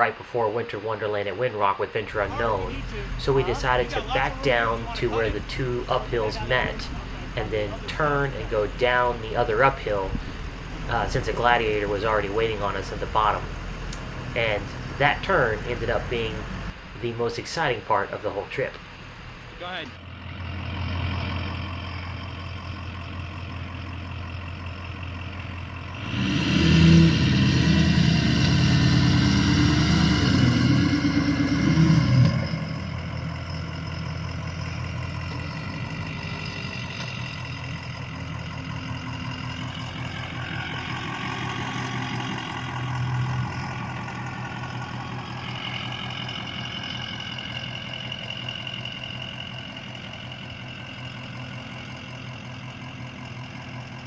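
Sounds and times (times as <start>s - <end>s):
truck diesel engine revving: 0.0s - 54.0s.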